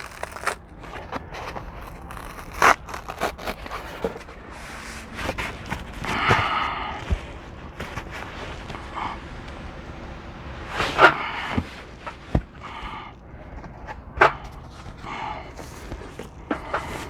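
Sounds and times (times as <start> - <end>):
foam and cardboard scraping: 0.0 - 9.7, 10.6 - 17.0.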